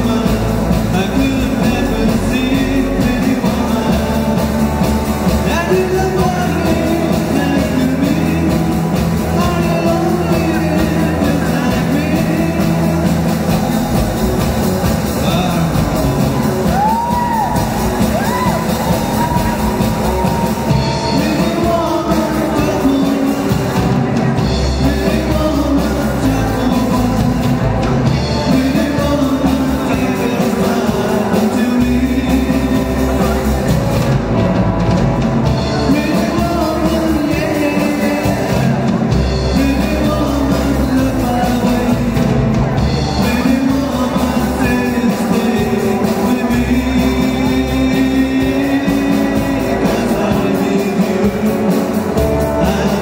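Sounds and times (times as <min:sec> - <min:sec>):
drum kit: 0:00.0 - 0:53.0
electric bass: 0:00.0 - 0:53.0
electric guitars: 0:00.0 - 0:53.0
live rock band playing: 0:00.0 - 0:53.0.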